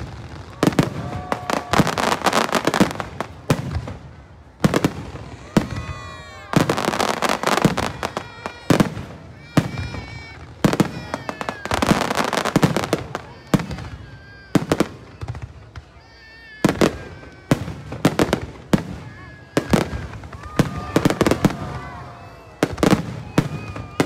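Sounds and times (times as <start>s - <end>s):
descending fireworks whistles: 0.0s - 24.0s
fireworks bangs: 0.0s - 24.0s
fireworks crackling: 0.0s - 24.0s.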